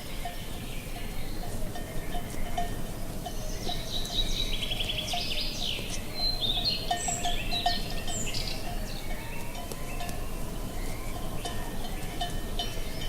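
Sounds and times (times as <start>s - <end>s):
cowbells clinking: 0.0s - 13.0s
songbirds chirping: 0.0s - 13.0s.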